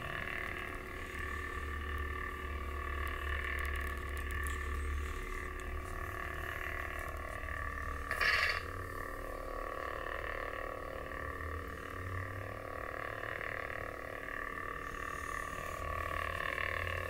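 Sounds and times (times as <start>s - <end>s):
lightsaber electronic hum: 0.0s - 17.0s.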